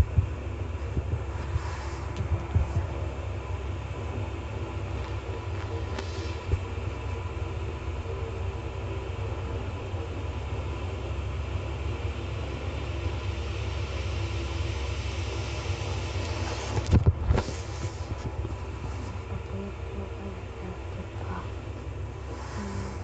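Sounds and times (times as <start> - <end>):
faint hum: 0.0 - 23.0
low rumble: 0.0 - 23.0.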